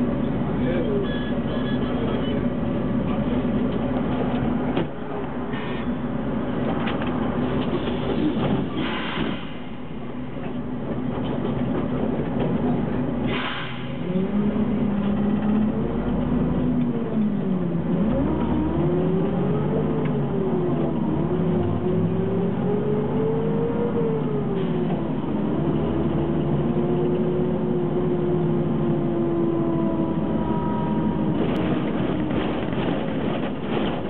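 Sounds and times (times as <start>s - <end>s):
bus diesel engine accelerating: 0.0s - 34.0s.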